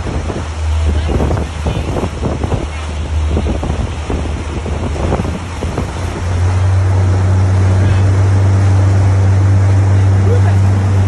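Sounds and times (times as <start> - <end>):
outboard motor running: 0.0 - 11.0
water splashing: 0.0 - 11.0
wind buffeting microphone: 0.0 - 11.0.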